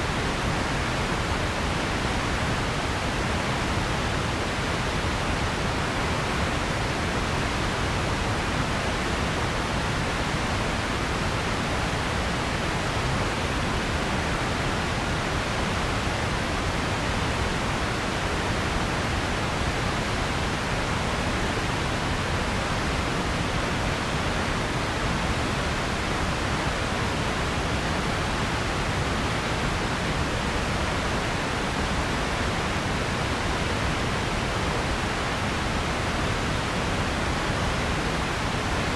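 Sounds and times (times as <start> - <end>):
steady noise hiss: 0.0 - 38.9.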